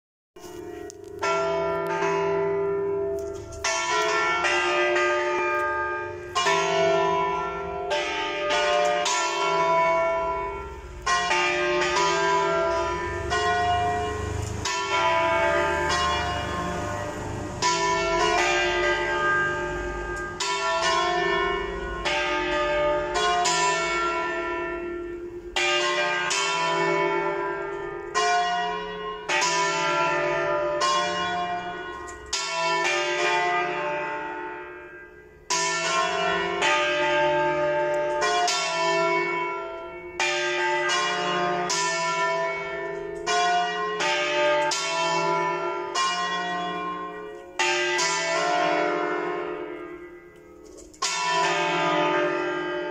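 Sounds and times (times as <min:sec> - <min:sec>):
church bells ringing: 0:00.4 - 0:52.9.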